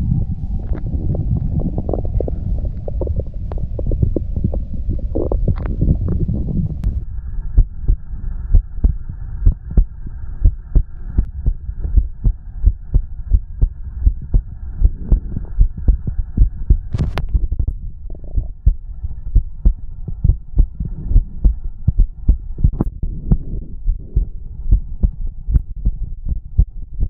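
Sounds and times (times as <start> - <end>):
heartbeat double thumps: 0.0 - 27.0
stomach rumble: 0.0 - 27.0.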